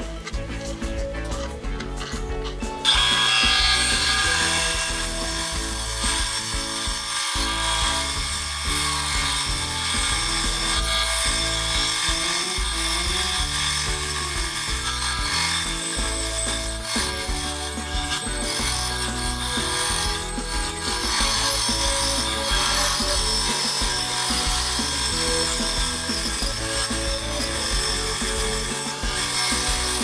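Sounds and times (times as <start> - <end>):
background music: 0.0 - 30.0
band saw cutting wood: 0.0 - 30.0.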